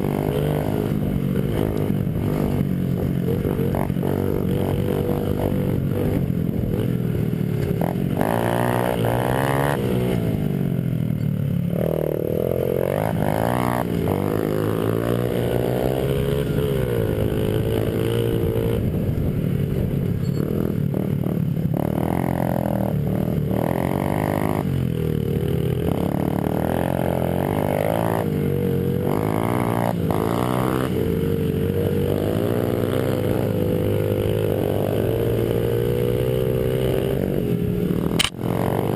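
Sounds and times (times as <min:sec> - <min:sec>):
small motorbike engines racing: 0:00.0 - 0:38.9.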